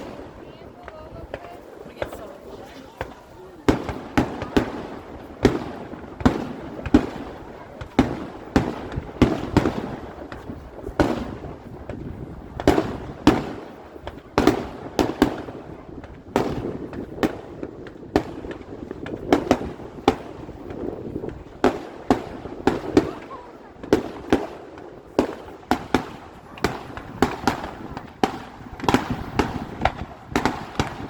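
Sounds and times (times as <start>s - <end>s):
fireworks bursting: 0.0s - 31.0s
fireworks crackle and echo: 0.0s - 31.0s.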